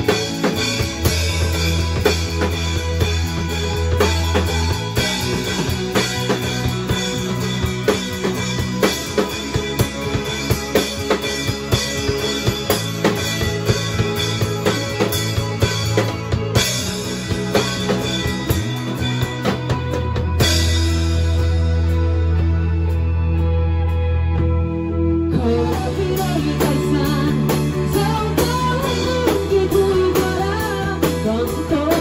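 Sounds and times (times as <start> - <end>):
drum kit beat: 0.0 - 23.2, 25.6 - 32.0
electric bass notes: 0.0 - 32.0
live band playing: 0.0 - 32.0.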